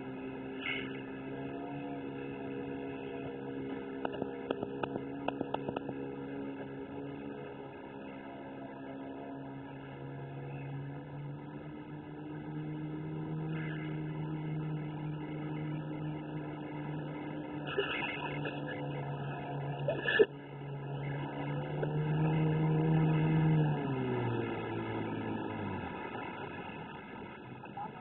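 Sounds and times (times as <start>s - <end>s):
outboard motor droning: 0.0s - 28.0s.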